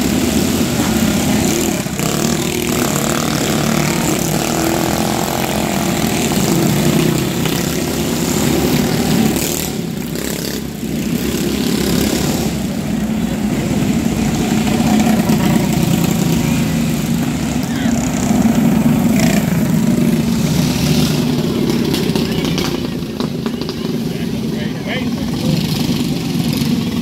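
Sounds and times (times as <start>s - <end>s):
small race engines buzzing: 0.0s - 27.0s.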